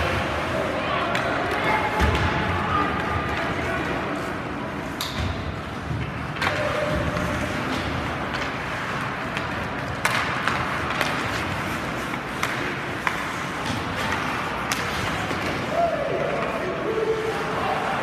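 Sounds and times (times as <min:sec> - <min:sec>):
skates scraping ice: 0:00.0 - 0:18.0
sticks clacking on puck: 0:01.0 - 0:16.8.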